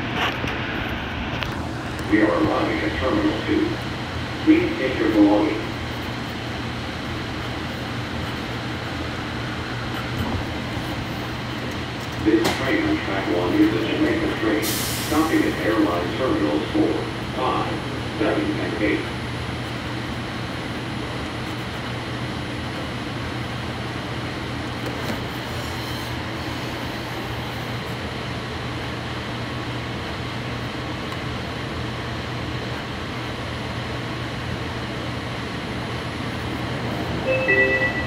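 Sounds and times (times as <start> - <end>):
ventilation and electrical hum: 0.0 - 38.0.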